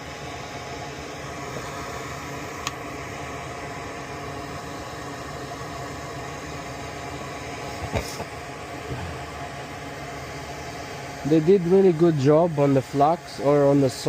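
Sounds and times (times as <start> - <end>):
small fan hissing: 0.0 - 14.0.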